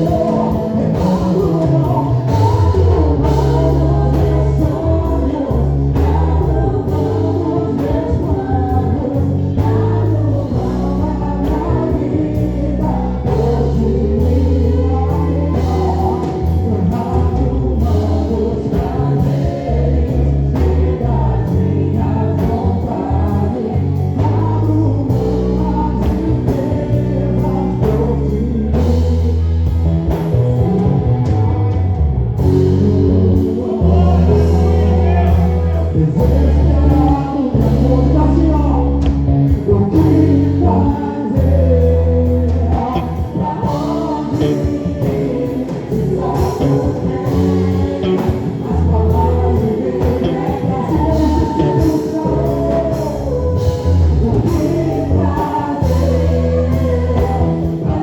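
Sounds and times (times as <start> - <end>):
steady drum beat: 0.0 - 38.2, 38.8 - 58.0
bass line: 0.0 - 58.0
voices singing: 0.0 - 58.0.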